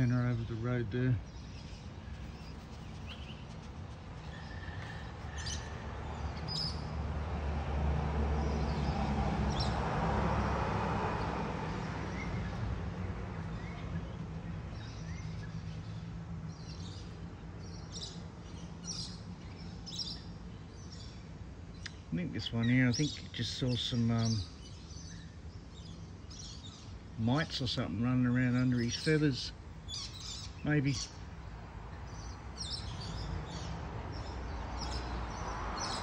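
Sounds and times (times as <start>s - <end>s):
small birds chirping: 0.0s - 7.0s, 11.2s - 36.0s.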